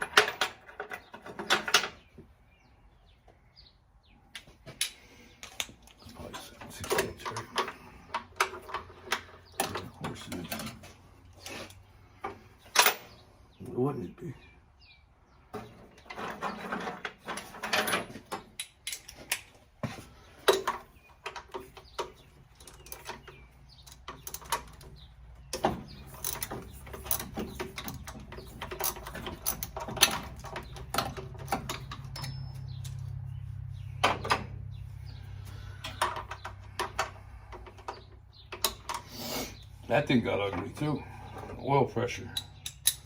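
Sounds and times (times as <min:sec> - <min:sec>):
clinks and knocks of metal tools: 0:00.0 - 0:02.1, 0:04.4 - 0:13.2, 0:15.5 - 0:39.1, 0:40.3 - 0:43.0.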